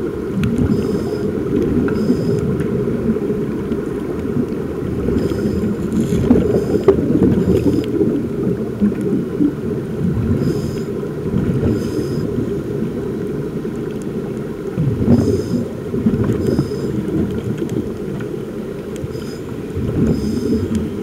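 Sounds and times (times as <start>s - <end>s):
underwater low rumble: 0.0s - 21.0s.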